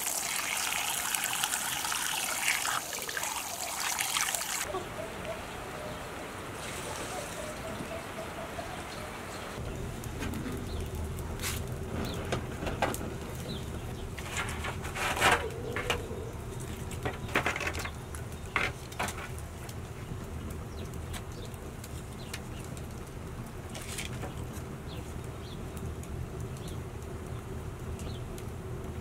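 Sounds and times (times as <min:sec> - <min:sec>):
wood fire crackling: 0:00.0 - 0:04.8, 0:09.6 - 0:29.0.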